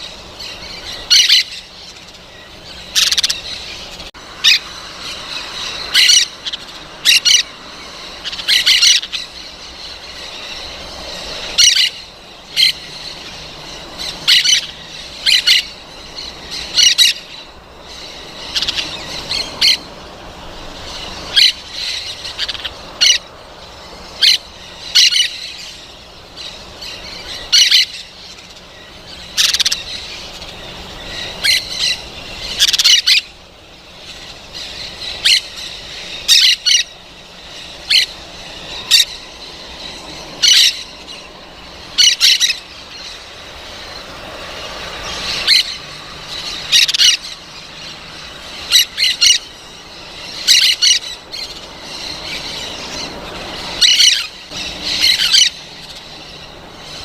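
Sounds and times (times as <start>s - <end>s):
parrots calling: 0.0s - 57.0s
steady background hum: 0.0s - 57.0s.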